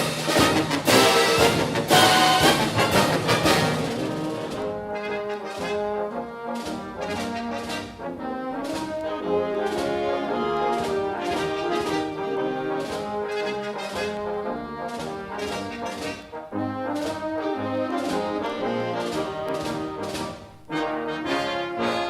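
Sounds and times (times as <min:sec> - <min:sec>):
brass band playing: 0:00.0 - 0:22.0
drum beats: 0:00.0 - 0:22.0.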